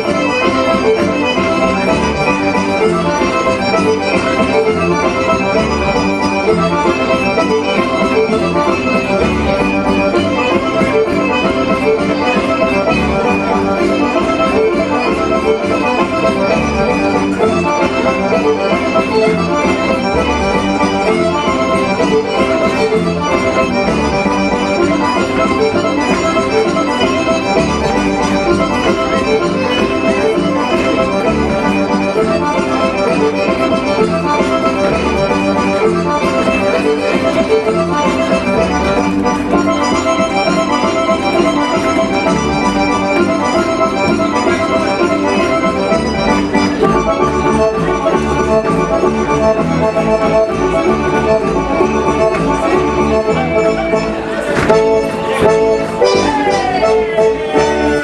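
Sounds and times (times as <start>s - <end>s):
accordion folk dance music: 0.0s - 58.0s.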